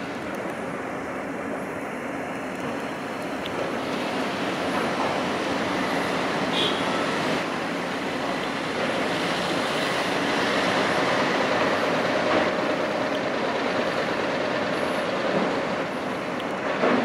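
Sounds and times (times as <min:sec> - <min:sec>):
construction site din: 0:00.0 - 0:17.0
road traffic: 0:00.0 - 0:17.0.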